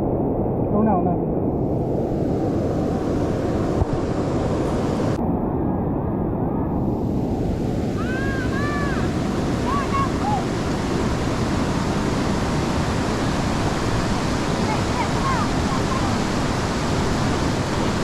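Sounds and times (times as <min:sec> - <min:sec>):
river roaring in flood: 0:00.8 - 0:05.2, 0:06.8 - 0:18.0.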